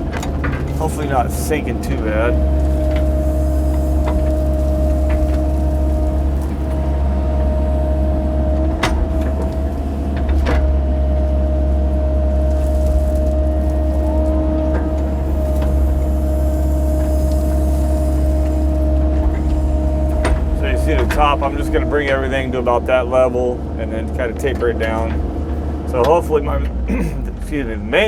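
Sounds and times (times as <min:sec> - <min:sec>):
excavator diesel engine whining: 0:00.0 - 0:28.0.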